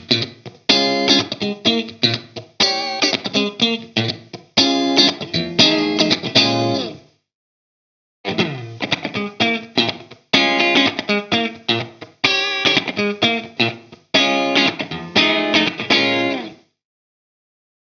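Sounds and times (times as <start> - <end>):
electric guitar playing: 0.0 - 7.0, 8.3 - 16.6.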